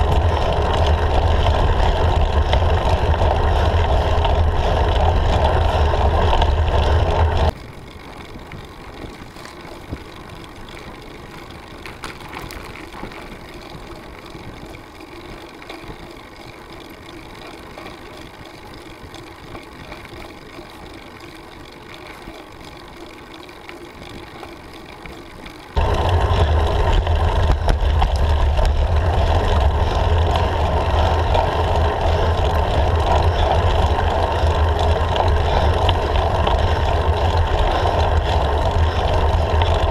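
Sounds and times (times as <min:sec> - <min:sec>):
wind buffeting: 0:00.0 - 0:21.8, 0:25.8 - 0:39.9
road rumble: 0:00.0 - 0:39.9.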